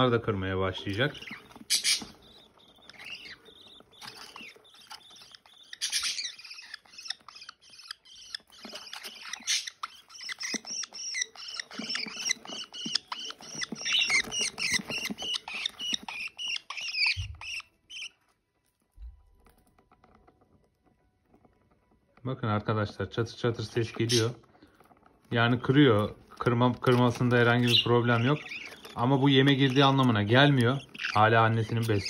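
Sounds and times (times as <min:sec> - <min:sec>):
budgerigars chirping and chattering: 0:00.0 - 0:32.0
beak cracking seeds: 0:00.7 - 0:32.0.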